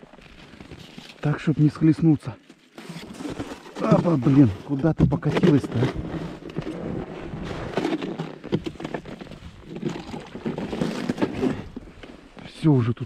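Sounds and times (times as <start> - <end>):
rustling of gloves and jacket: 0.0 - 4.8, 5.4 - 12.9
crunching and scraping of snow and ice: 0.0 - 13.0.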